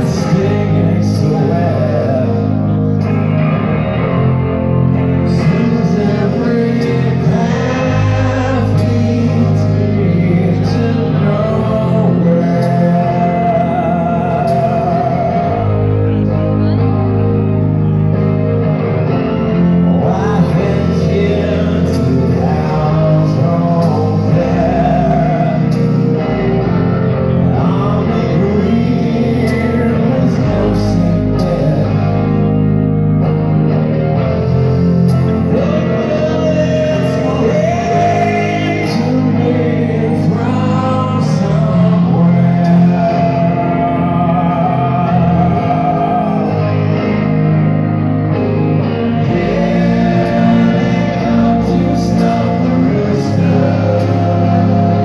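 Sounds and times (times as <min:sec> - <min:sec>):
man singing lead vocal: 0:00.0 - 0:17.2, 0:19.8 - 0:32.8, 0:34.3 - 0:55.0
electric guitar: 0:00.0 - 0:55.0
live rock band playing: 0:00.0 - 0:55.0.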